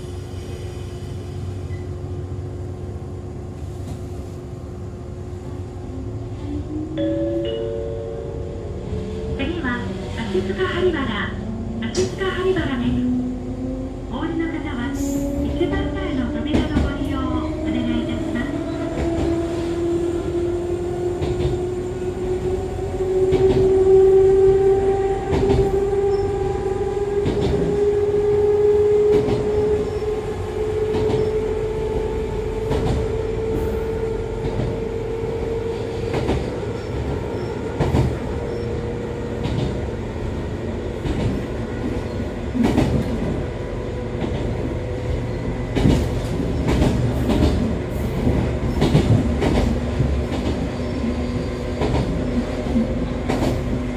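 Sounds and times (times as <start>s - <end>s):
train rumble: 0.0s - 53.9s.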